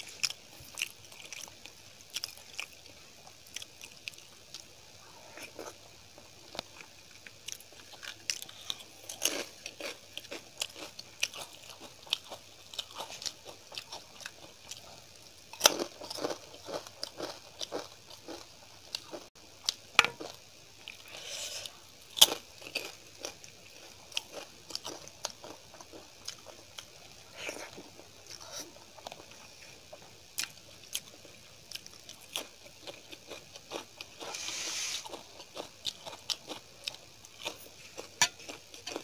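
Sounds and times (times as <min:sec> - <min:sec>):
person chewing: 0:00.0 - 0:29.4, 0:30.0 - 0:39.0.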